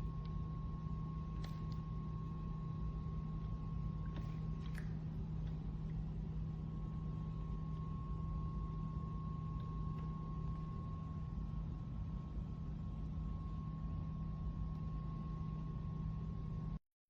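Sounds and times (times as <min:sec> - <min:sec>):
low background rumble: 0:00.0 - 0:16.8
low electrical hum: 0:00.0 - 0:16.8.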